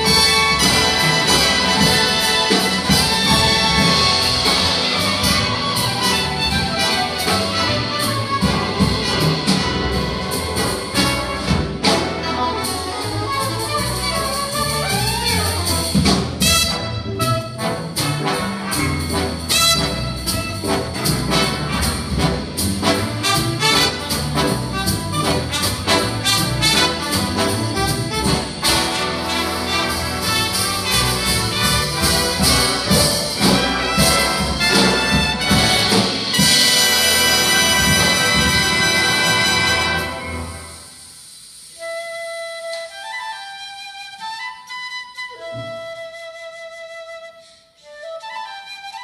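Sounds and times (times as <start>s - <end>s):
trumpets and trombones: 0.0s - 41.0s
jazz big band playing: 0.0s - 46.2s.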